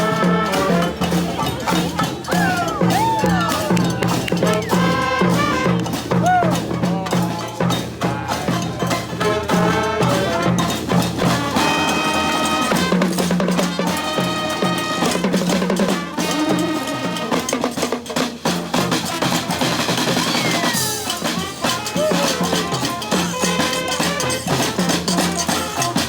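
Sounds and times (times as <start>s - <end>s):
brass band playing: 0.0s - 26.0s
snare and bass drum beat: 0.0s - 26.0s.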